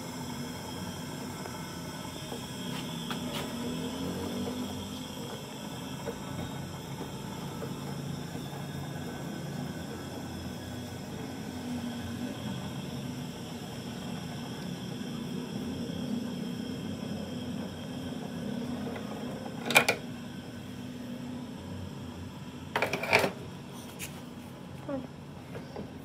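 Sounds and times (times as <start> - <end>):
small motor humming: 0.0 - 23.3.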